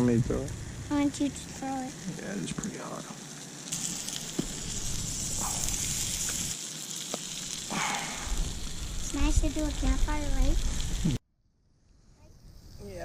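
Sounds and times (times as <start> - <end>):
dough sizzling in frying: 0.0 - 11.2.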